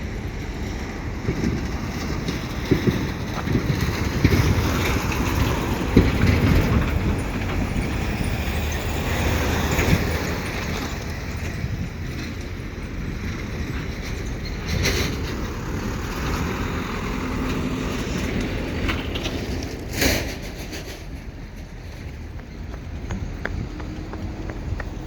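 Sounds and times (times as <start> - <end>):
road traffic rumble: 0.0 - 25.0
wind on microphone: 0.0 - 25.0.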